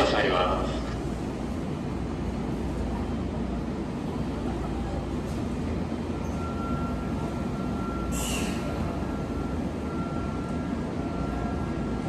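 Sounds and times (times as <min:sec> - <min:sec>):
train equipment low rumble: 0:00.0 - 0:12.0
train inverter high whine: 0:00.0 - 0:12.0.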